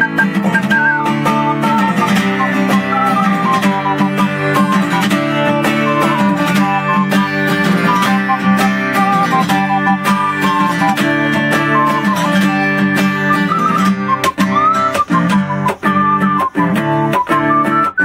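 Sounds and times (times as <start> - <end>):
acoustic guitar strumming: 0.0 - 18.0
double ocarina melody: 0.0 - 18.0.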